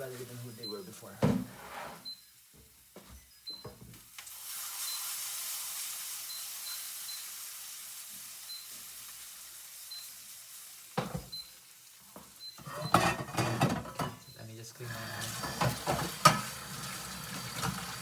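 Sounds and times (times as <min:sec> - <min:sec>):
food sizzling in a hot pan: 0:02.1 - 0:18.0.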